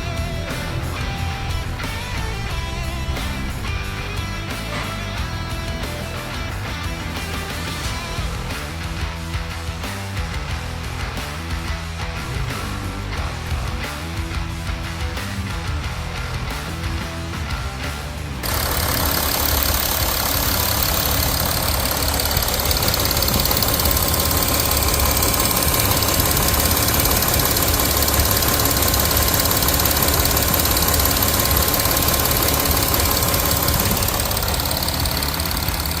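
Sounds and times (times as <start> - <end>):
diesel engine running: 0.0 - 8.7, 15.5 - 36.0
music: 0.0 - 36.0.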